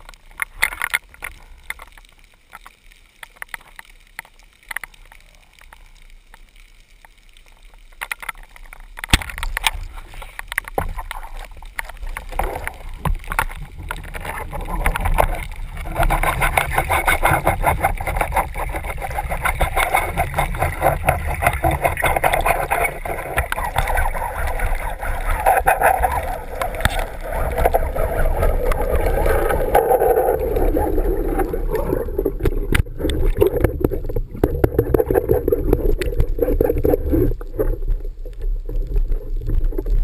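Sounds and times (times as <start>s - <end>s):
churning crackling water: 0.0s - 40.0s
faint underwater clicks: 0.0s - 40.0s.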